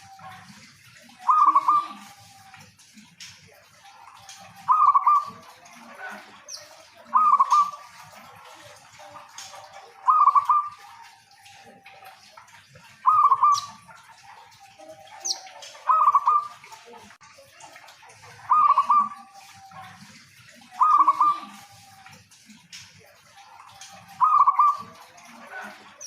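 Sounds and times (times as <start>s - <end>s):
dove trilled cooing: 0.0s - 2.4s, 3.9s - 16.8s, 18.4s - 21.9s, 23.5s - 26.0s.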